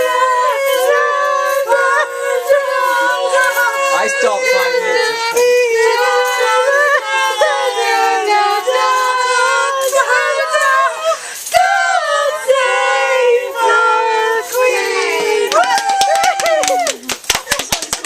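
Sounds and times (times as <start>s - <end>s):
high young voices singing: 0.0s - 17.1s.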